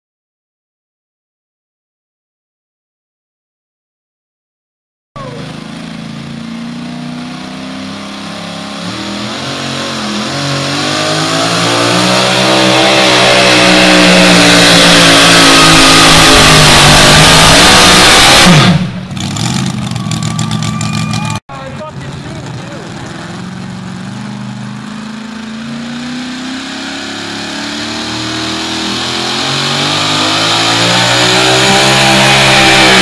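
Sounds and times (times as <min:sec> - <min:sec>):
truck engine revving at full throttle: 0:05.2 - 0:33.0.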